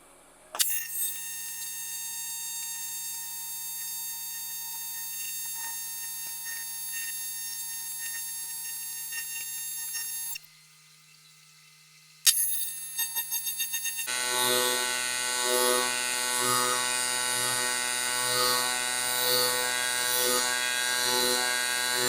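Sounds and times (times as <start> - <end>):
welding arc buzz: 0.5 - 10.4, 12.2 - 22.0.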